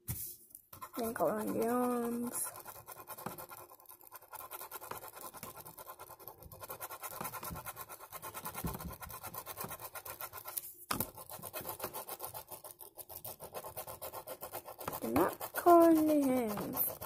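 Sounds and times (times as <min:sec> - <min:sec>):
pen scribbling on paper: 0:00.7 - 0:17.0.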